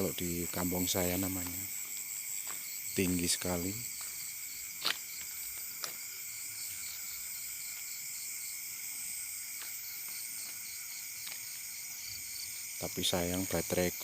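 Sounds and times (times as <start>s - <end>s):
crickets and insects trilling: 0.0s - 14.0s.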